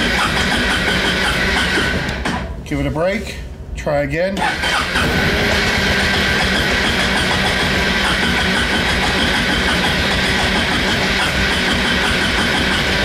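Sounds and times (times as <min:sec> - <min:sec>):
electric starter cranking engine: 0:00.0 - 0:02.4, 0:04.4 - 0:13.0.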